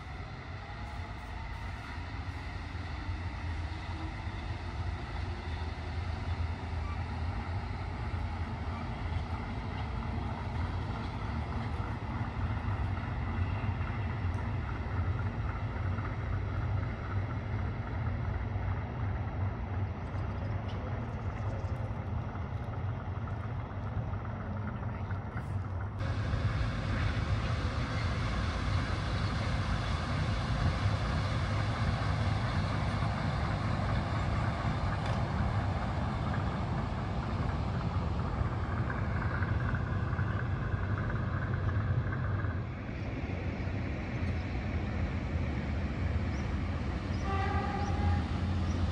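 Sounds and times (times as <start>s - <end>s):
distant vehicles rumbling: 0.0s - 48.9s.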